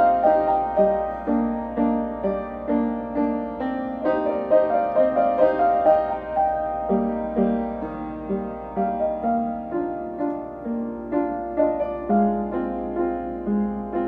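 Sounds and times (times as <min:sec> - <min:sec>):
piano melody with chords: 0:00.0 - 0:14.0.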